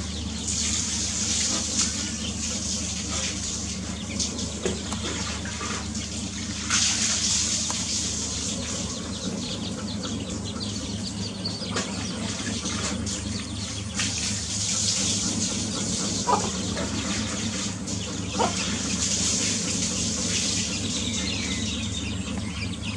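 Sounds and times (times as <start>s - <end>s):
chicks and hen calling: 0.0s - 22.9s.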